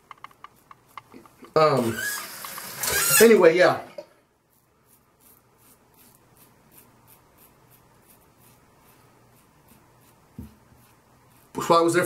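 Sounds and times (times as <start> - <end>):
razor scraping stubble: 0.4 - 3.4, 4.5 - 12.0.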